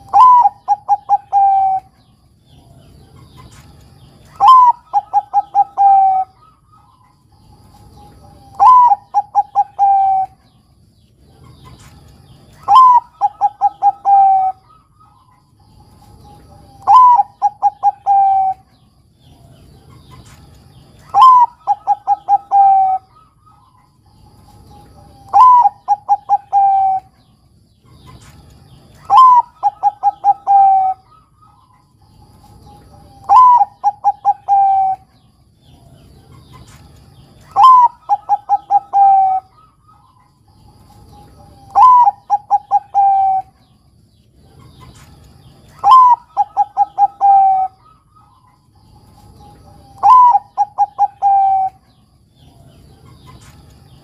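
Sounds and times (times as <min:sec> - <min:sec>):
dove cooing: 0:00.0 - 0:43.8, 0:44.4 - 0:54.0.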